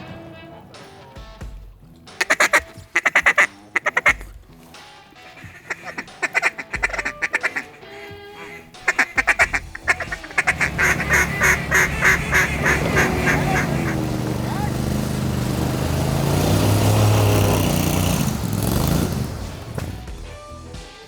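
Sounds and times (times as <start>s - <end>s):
ducks quacking: 2.1s - 4.4s, 5.2s - 20.1s.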